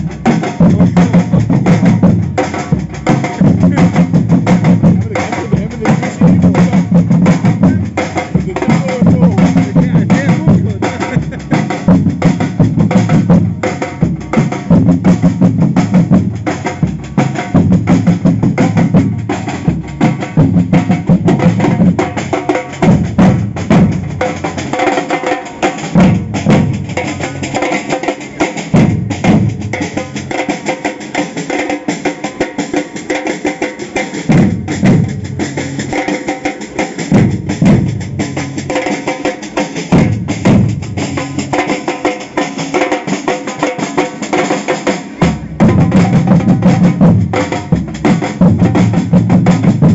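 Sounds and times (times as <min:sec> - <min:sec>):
deep bass drums: 0:00.0 - 0:24.8, 0:25.8 - 0:30.4, 0:33.9 - 0:39.0, 0:39.8 - 0:41.7, 0:45.1 - 0:49.9
samba percussion band: 0:00.0 - 0:49.9
snare drums: 0:00.0 - 0:49.9.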